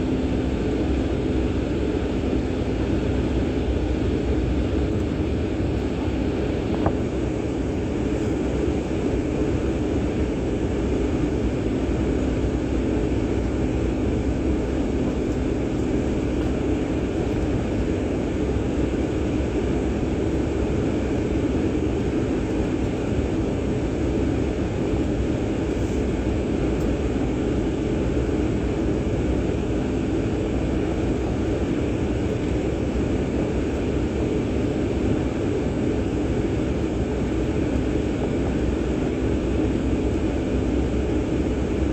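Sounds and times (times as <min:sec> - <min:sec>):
jet engines humming in cabin: 0:00.0 - 0:41.9.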